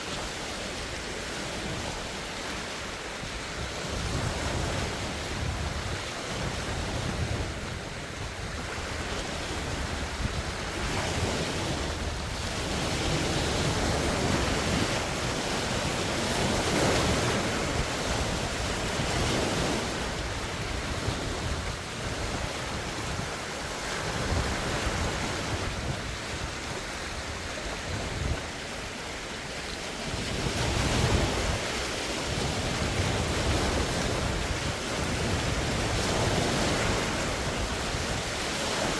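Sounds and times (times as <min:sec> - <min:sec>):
lake waves breaking ashore: 0:00.0 - 0:38.9
wind buffeting microphone: 0:00.2 - 0:38.9.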